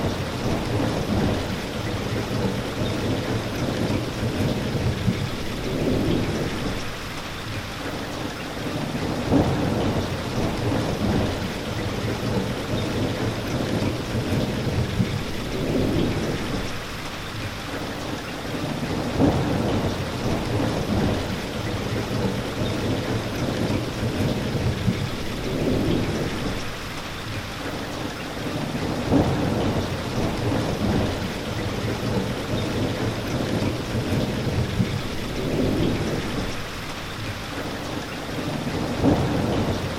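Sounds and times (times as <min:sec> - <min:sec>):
low rumbles of thunder: 0:00.0 - 0:07.0, 0:09.0 - 0:16.9, 0:18.8 - 0:26.8, 0:28.8 - 0:36.8, 0:38.7 - 0:39.9
steady rain falling: 0:00.0 - 0:39.9.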